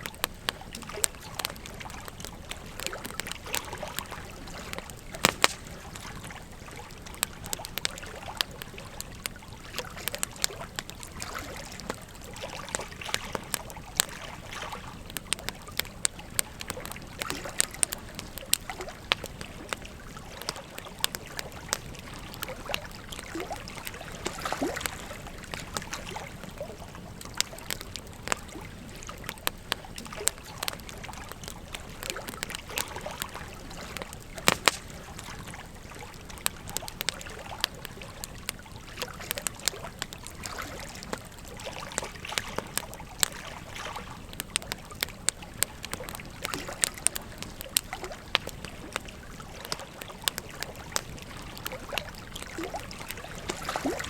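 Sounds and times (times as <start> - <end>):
river water flowing: 0.0 - 54.0
wood fire crackling and popping: 0.0 - 54.0.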